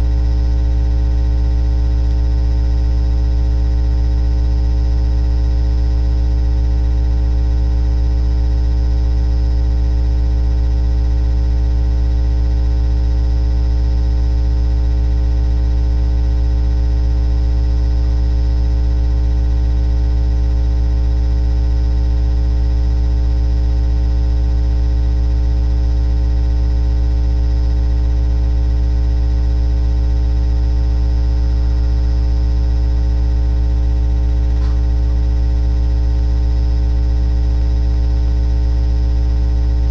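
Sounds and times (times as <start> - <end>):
loud electrical hum: 0.0 - 39.9.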